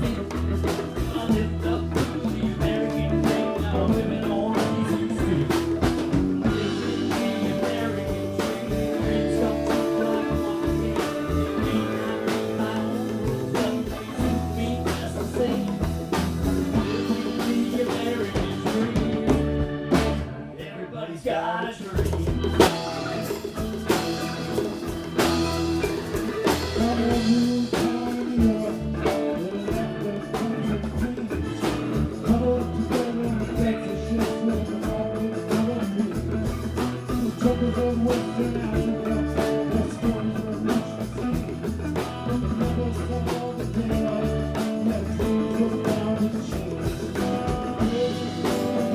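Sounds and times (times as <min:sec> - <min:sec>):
drum kit beat: 0:00.0 - 0:20.4, 0:21.9 - 0:48.9
bass guitar: 0:00.0 - 0:48.9
electric guitar: 0:00.0 - 0:48.9.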